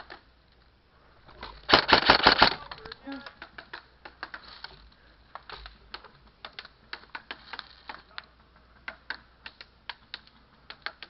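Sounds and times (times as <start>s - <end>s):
faint background noise: 0.0s - 11.0s
sharp clicks and ticks: 1.6s - 11.0s.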